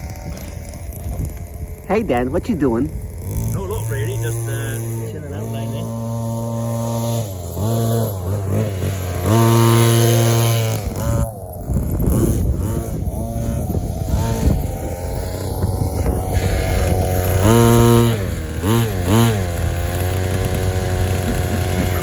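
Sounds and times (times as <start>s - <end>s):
small two-stroke engine buzzing: 0.0s - 1.8s, 2.9s - 22.0s.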